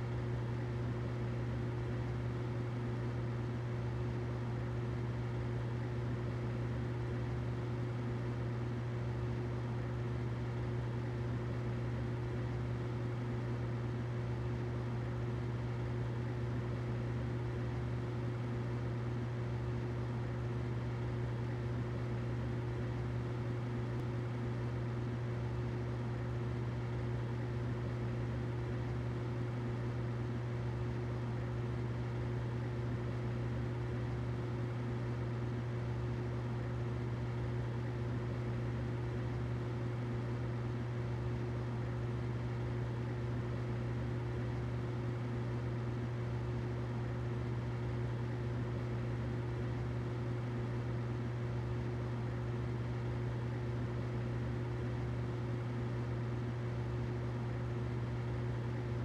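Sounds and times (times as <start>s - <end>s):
humidifier humming and hissing: 0.0s - 59.0s.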